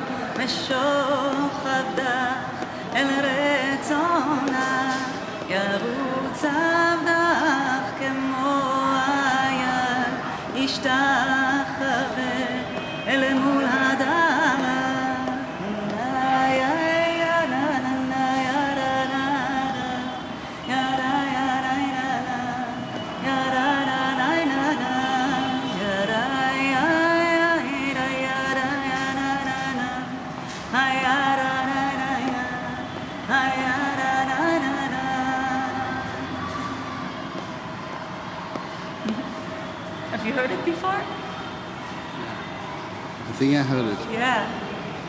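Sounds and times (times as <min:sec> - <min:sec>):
woman singing unaccompanied: 0:00.0 - 0:37.4.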